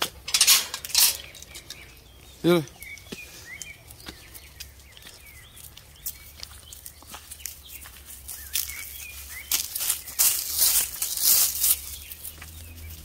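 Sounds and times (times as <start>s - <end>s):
small birds chirping: 0.0s - 13.0s
rustling scuffing noise: 0.1s - 13.0s.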